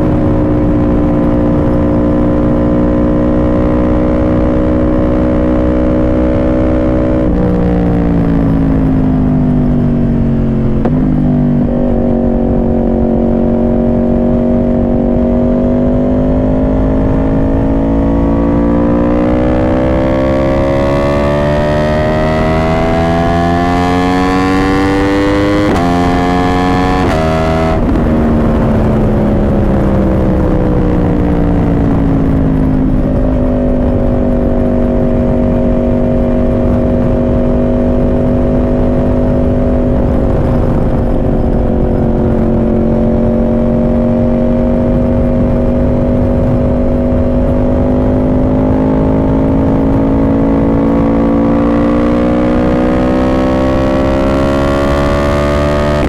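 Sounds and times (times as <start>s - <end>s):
sport bike engine: 0.0s - 56.0s
wind noise rushing: 0.0s - 56.0s.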